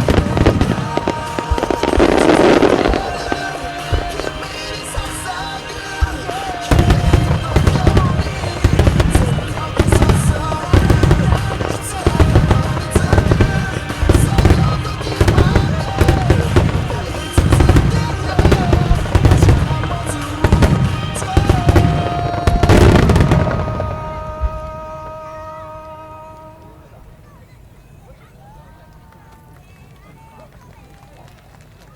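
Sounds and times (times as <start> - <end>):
fireworks bursting in booms: 0.0 - 27.3
music: 0.0 - 29.0.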